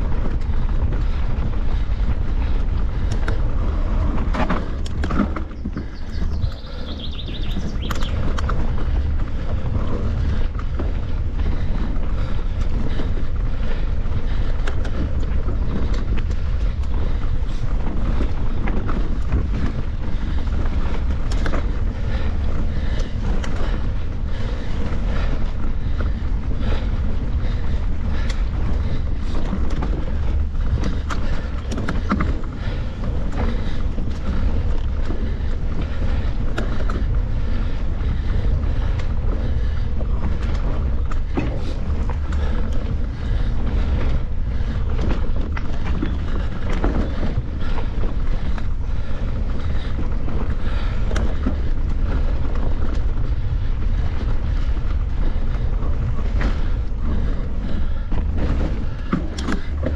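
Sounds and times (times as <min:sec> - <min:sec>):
bike clicks and rattles: 0:00.0 - 0:59.9
wind rumbling on microphone: 0:00.0 - 0:59.9.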